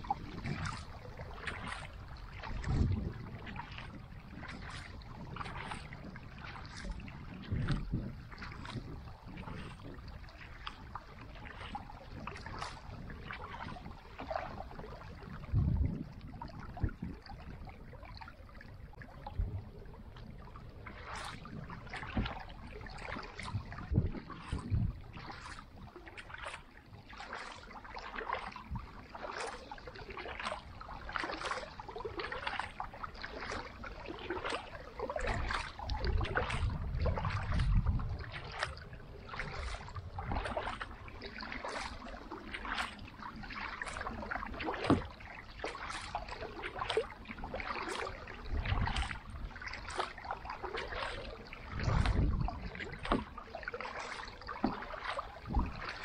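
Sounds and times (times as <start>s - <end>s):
wind buffeting microphone: 0.0s - 26.1s, 29.9s - 42.9s, 46.9s - 50.1s, 51.0s - 53.4s, 55.3s - 56.0s
kayak paddle splashing in water: 0.0s - 56.0s.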